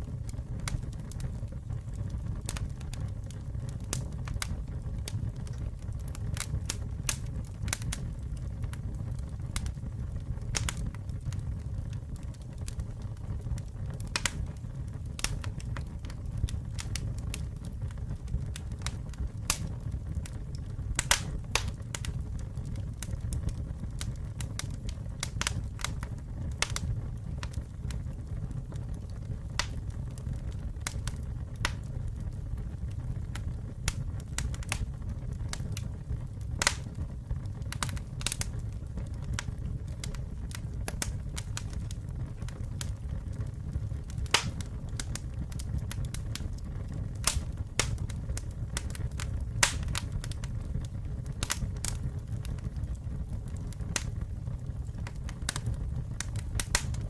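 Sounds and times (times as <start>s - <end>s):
burning wood crackling and popping: 0.0s - 57.0s
campfire flames rumbling: 0.0s - 57.0s.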